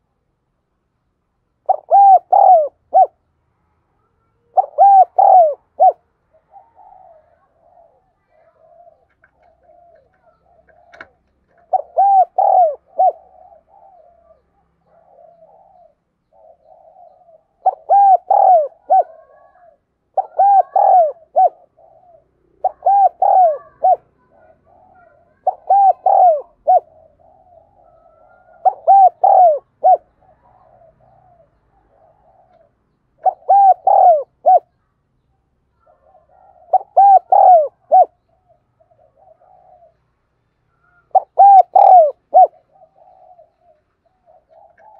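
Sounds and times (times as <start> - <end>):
dove cooing: 1.6 - 3.2, 4.4 - 34.8, 35.8 - 40.0, 40.7 - 44.9
soft low murmured cooing: 1.7 - 3.2, 3.8 - 34.9, 35.7 - 44.9.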